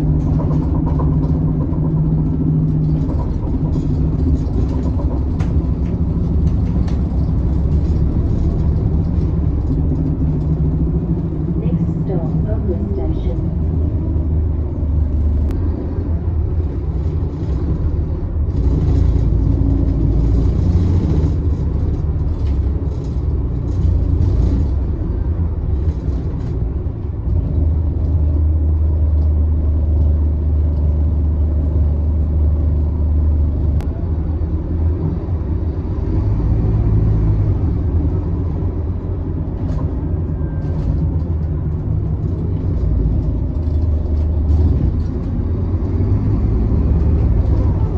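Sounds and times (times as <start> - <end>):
bus diesel engine running: 0.0 - 47.9.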